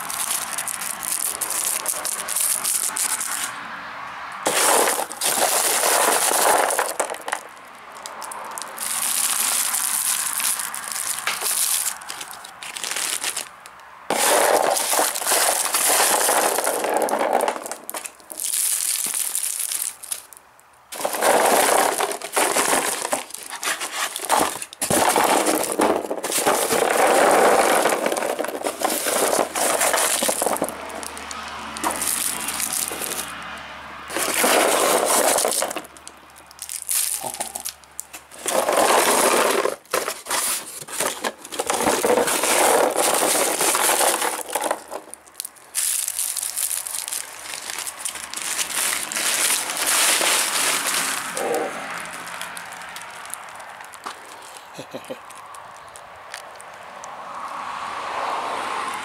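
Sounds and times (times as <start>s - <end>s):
candy wrappers crinkling: 0.0s - 3.5s, 4.5s - 33.3s, 34.1s - 56.8s.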